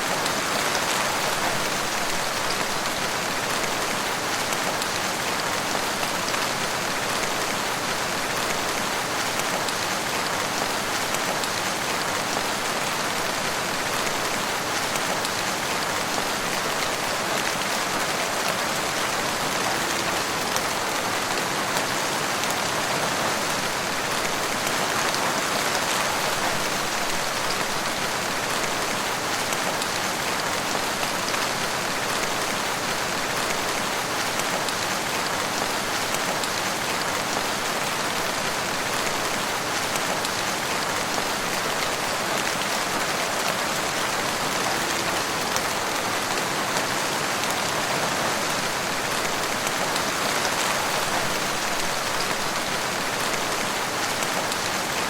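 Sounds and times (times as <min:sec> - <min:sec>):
rain on leaves and ground: 0:00.0 - 0:55.0.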